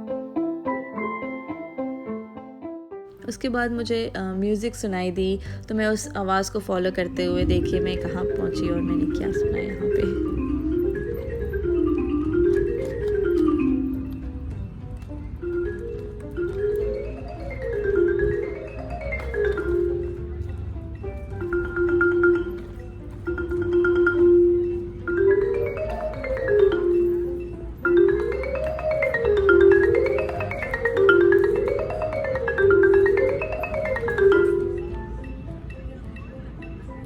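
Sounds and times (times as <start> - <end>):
mallet percussion melody: 3.2 - 37.0.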